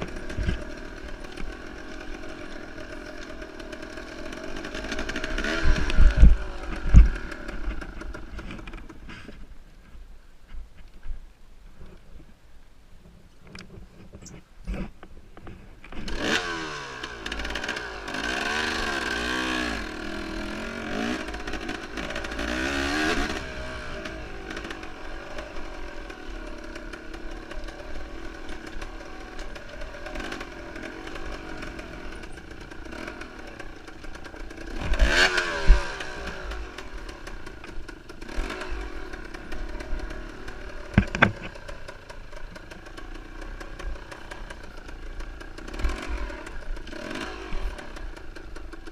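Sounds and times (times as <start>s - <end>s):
motorcycle engine revving: 0.0s - 9.3s, 15.8s - 48.9s
bike rattling and knocking: 0.0s - 9.4s, 14.2s - 48.9s.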